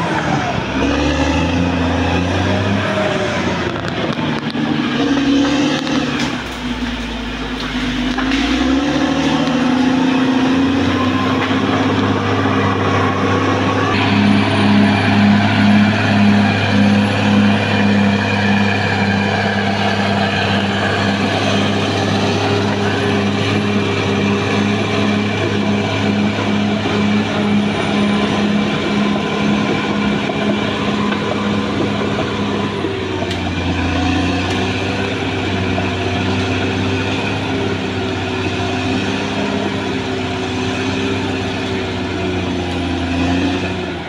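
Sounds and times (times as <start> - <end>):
bulldozer diesel engine under load: 0.0 - 44.0.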